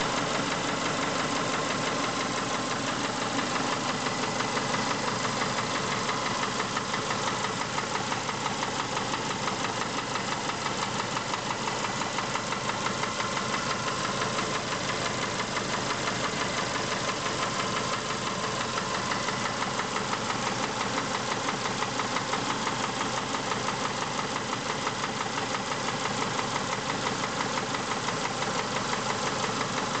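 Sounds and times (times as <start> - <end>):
car engine idling with knock: 0.0 - 30.0.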